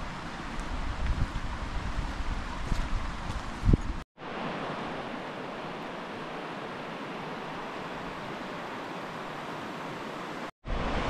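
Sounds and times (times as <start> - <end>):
river water flowing: 0.0 - 11.0
wind rumbling on microphone: 0.0 - 11.0.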